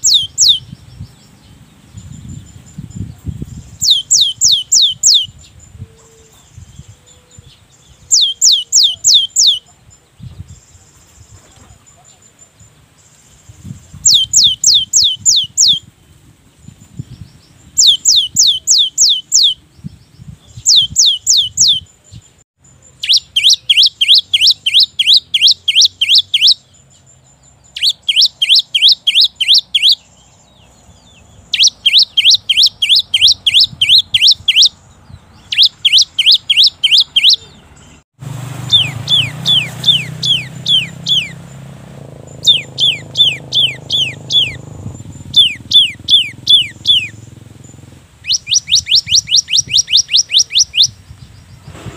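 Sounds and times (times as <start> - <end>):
bird singing whistled notes: 0.0 - 38.0, 38.6 - 51.9.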